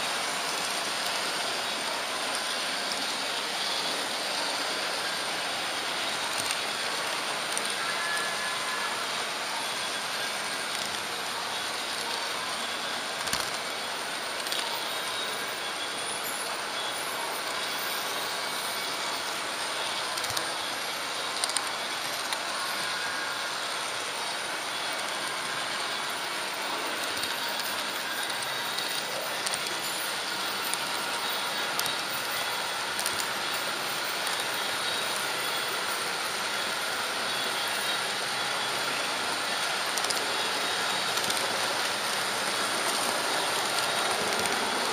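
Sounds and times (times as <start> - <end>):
model train rolling on track: 0.0 - 44.9.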